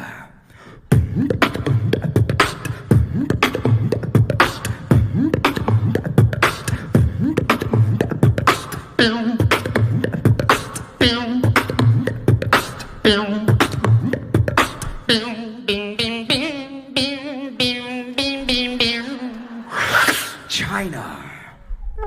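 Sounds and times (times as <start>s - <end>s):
beatboxing: 0.8s - 20.6s.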